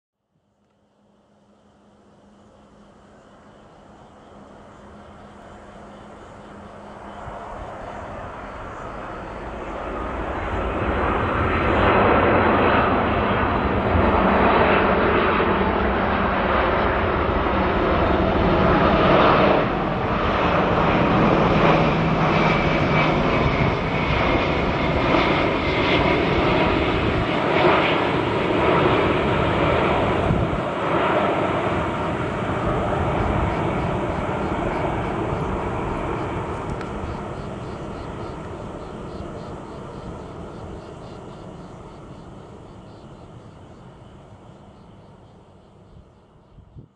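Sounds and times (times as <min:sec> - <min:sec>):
jet engines rushing with whine: 0:00.3 - 0:46.9.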